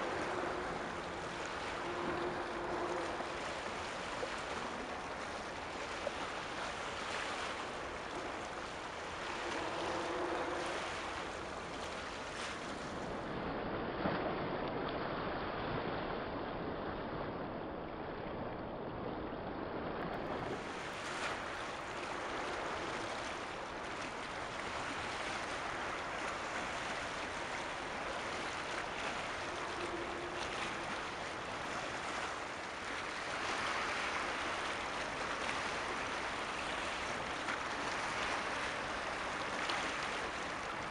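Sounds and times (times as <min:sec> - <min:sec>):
wind and water rushing: 0:00.0 - 0:40.9.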